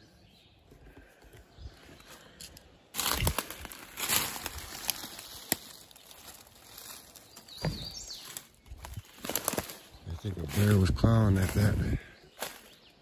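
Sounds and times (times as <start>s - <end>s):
rustling and crunching: 2.0s - 12.8s.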